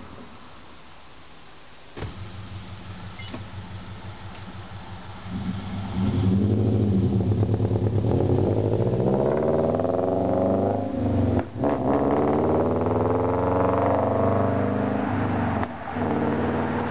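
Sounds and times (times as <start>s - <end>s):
loud car engine exhaust: 2.0s - 16.9s.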